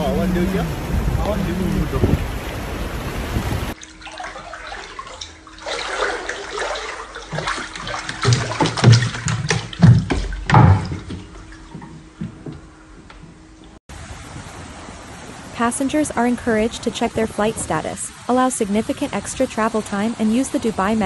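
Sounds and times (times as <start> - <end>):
floodwater sloshing and splashing: 0.0 - 12.6, 13.2 - 21.0.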